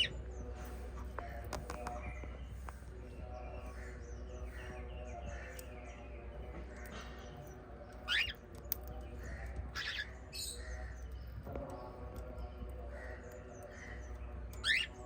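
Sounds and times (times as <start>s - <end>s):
parrots chirping and chattering: 0.0s - 15.0s.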